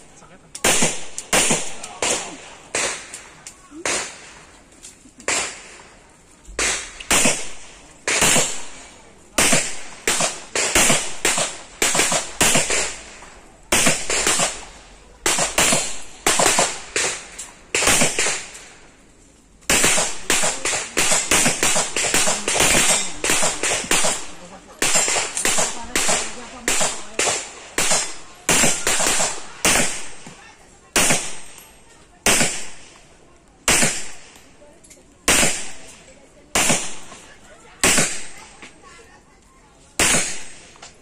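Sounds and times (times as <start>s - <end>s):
pistol shots with echo: 0.6s - 4.5s, 6.6s - 18.8s, 19.7s - 30.3s, 30.9s - 32.9s, 33.6s - 34.4s, 35.2s - 37.2s, 37.8s - 38.5s, 40.0s - 40.8s.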